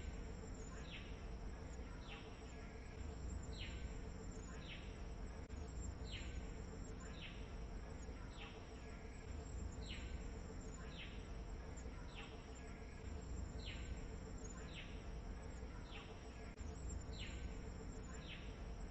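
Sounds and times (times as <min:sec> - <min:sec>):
low rumble and hiss: 0:00.0 - 0:18.9.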